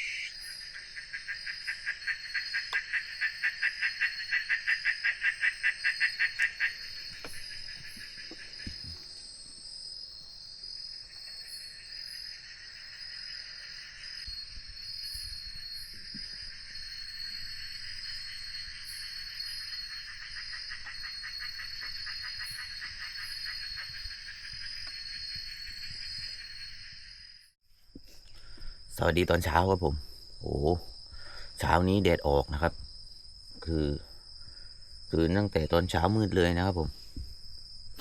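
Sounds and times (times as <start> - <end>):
insects short high chirps: 0.0 - 9.5, 11.0 - 38.0
crickets high trill: 0.0 - 10.4, 11.0 - 27.5, 28.6 - 38.0
insects low pulsing trill: 0.0 - 38.0.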